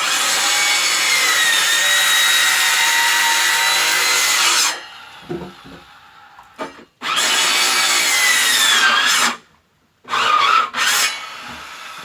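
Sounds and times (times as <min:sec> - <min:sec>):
power saw cutting wood: 0:00.0 - 0:05.7, 0:07.0 - 0:09.4, 0:10.1 - 0:12.0.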